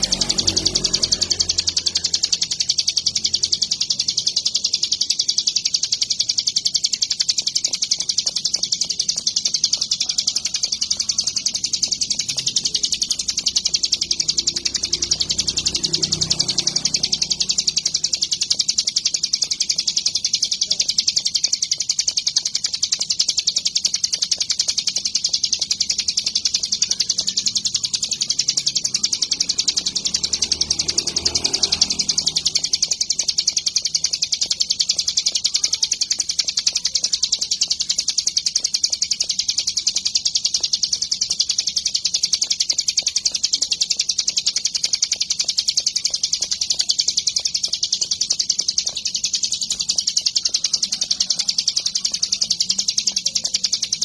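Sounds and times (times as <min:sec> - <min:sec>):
bird high-pitched chattering song: 0:00.0 - 0:54.0.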